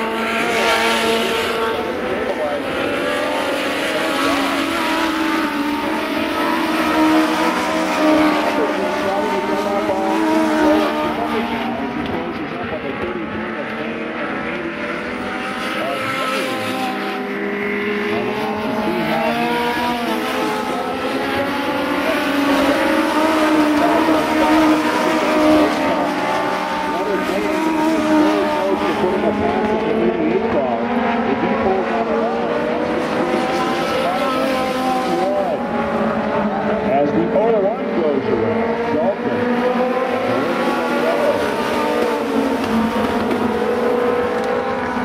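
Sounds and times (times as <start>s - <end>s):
race car engines: 0.0s - 45.0s.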